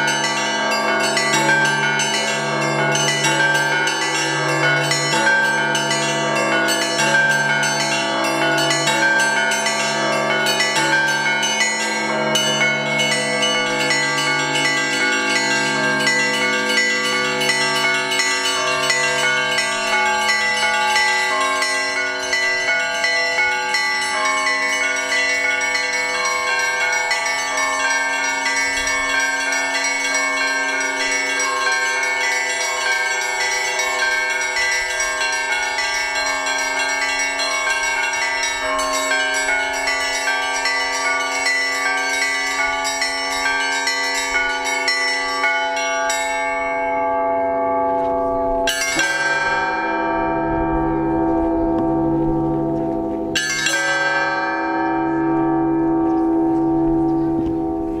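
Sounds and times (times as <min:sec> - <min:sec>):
small church bells pealing: 0:00.0 - 0:58.0.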